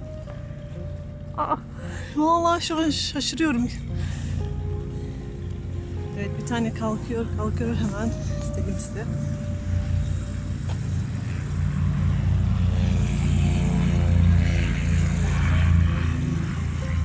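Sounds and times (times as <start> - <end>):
propeller plane engine taxiing: 0.0 - 17.0.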